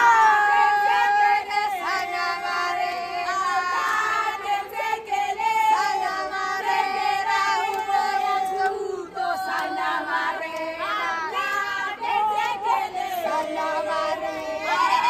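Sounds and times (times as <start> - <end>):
women and girls singing: 0.0 - 15.0.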